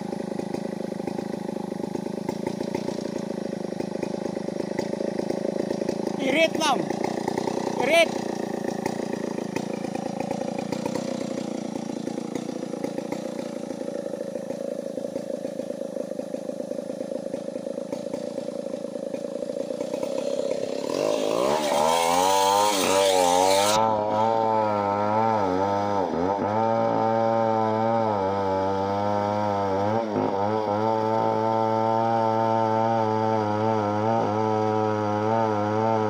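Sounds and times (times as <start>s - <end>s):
chainsaw cutting timber: 0.0s - 36.0s.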